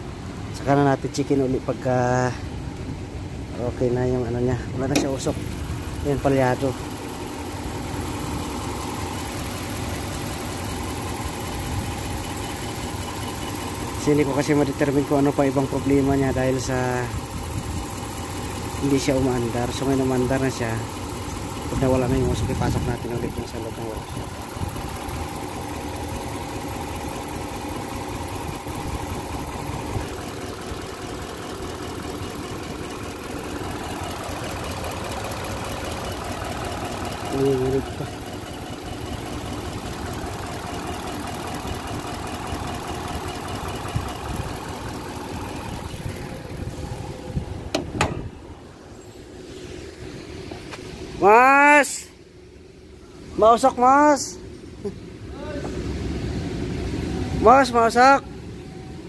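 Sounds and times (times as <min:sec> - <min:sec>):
engine idling with misfire: 0:00.0 - 0:59.0.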